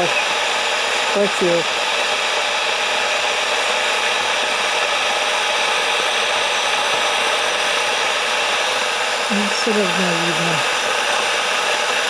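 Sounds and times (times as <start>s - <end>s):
electric kettle hissing: 0.0s - 12.0s.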